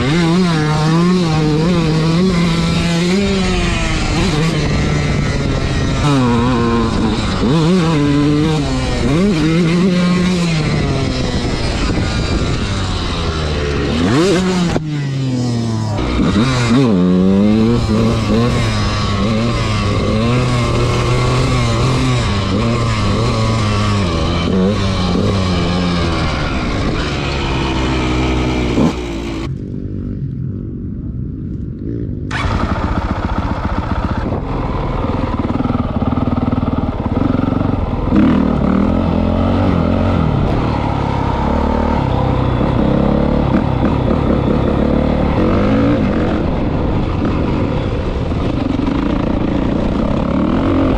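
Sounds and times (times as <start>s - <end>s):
dirt bike engine revving: 0.0s - 30.2s, 31.8s - 50.9s.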